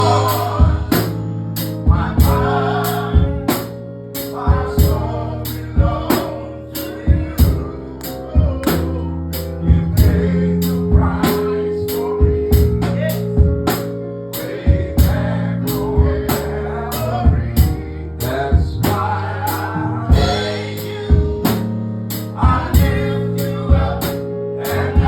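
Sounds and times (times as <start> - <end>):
sustained chords: 0.0 - 25.0
voices singing: 0.0 - 25.0.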